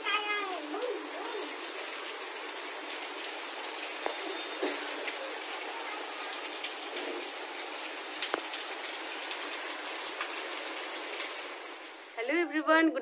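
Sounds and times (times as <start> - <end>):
sharp water drips: 0.0 - 12.3
rain falling on plants and paving: 0.0 - 12.6.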